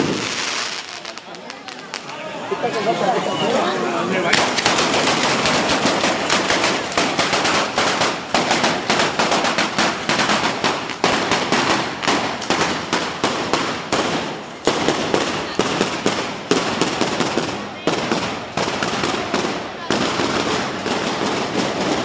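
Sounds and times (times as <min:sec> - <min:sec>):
string of firecrackers banging: 0:00.0 - 0:02.8, 0:04.2 - 0:22.0.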